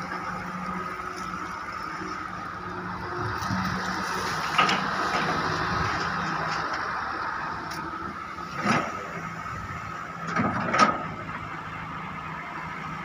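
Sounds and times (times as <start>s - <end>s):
excavator engine whine: 0.0s - 13.0s.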